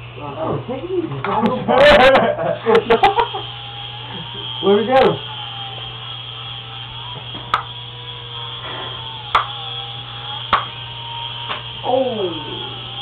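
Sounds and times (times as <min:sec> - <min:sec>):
toy helicopter rotor whining: 0:01.7 - 0:13.0.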